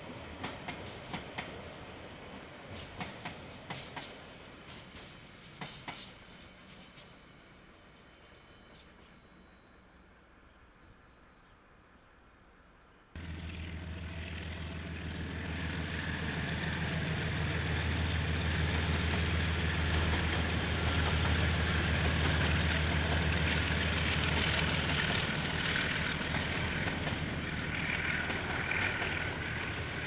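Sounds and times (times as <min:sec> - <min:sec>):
train running hiss: 0:00.0 - 0:09.4, 0:13.2 - 0:30.0
diesel locomotive engine drone: 0:00.0 - 0:30.0.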